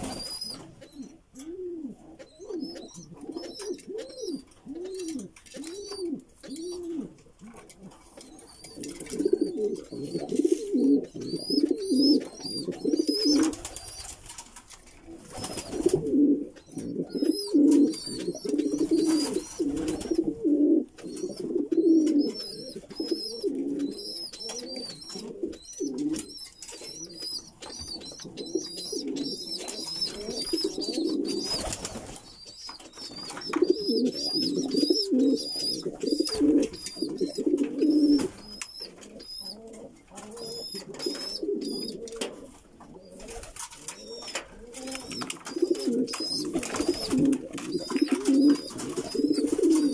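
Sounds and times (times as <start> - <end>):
birds chirping high-pitched: 0.0 - 1.2, 2.2 - 6.8, 8.2 - 14.4, 15.3 - 20.4, 21.0 - 42.0, 43.0 - 49.9
pigeons cooing: 0.0 - 49.9.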